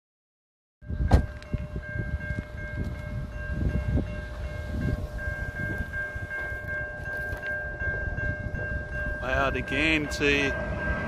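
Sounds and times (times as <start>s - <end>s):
level-crossing warning bell ringing: 0.8s - 11.0s.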